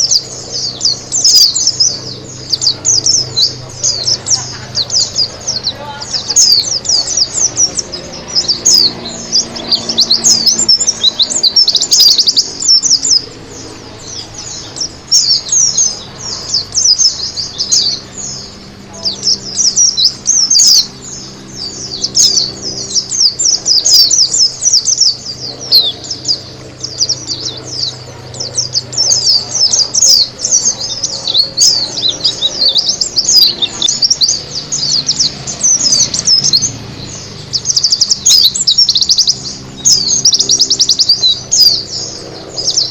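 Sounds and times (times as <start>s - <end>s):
bird twittering song: 0.0s - 42.9s.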